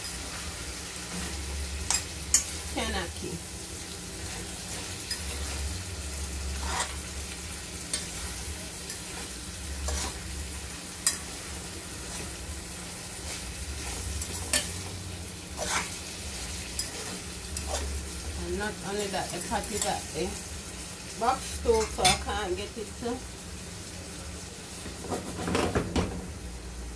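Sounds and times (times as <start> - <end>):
food sizzling in a metal pot: 0.0 - 26.9.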